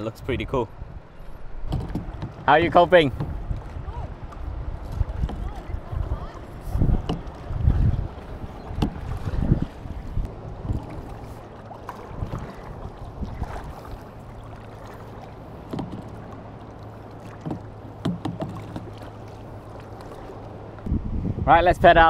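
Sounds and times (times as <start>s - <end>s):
wind: 0.0s - 22.0s
paddle splashing in water: 1.6s - 20.9s
water washing: 1.6s - 20.9s.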